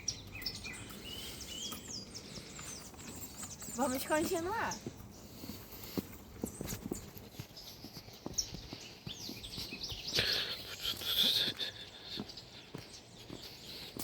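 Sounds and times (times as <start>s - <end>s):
bird chirping: 0.0s - 14.0s
footsteps on forest trail: 0.0s - 14.0s.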